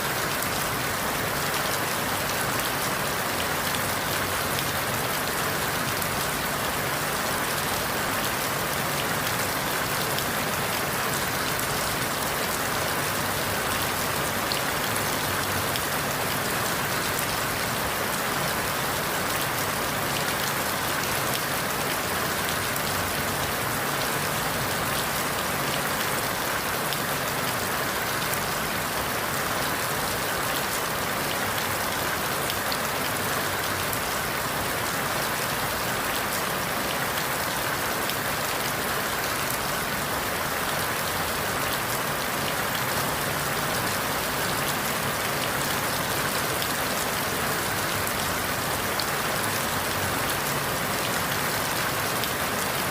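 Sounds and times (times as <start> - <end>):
rain falling through leaves: 0.0 - 52.9.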